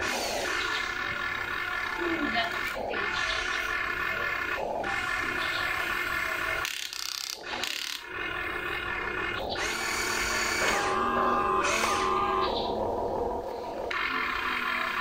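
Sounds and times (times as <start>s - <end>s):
electric motors whining: 0.0s - 15.0s
steady motor tone: 0.0s - 15.0s.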